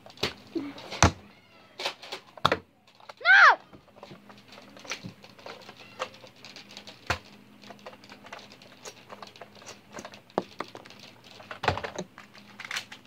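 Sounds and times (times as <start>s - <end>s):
clicks and taps of plastic toys: 0.0s - 13.0s.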